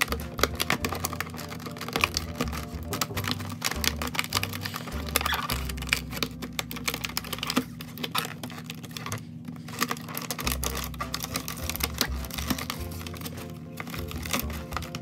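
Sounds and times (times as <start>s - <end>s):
plastic packaging crackling: 0.0s - 15.0s.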